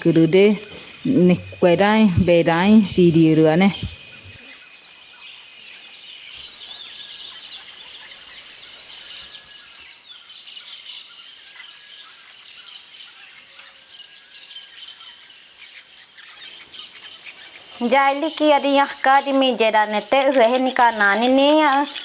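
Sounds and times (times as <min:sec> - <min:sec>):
bird chirps and calls: 0:00.0 - 0:13.7, 0:14.4 - 0:22.0
high insect drone: 0:00.0 - 0:22.0.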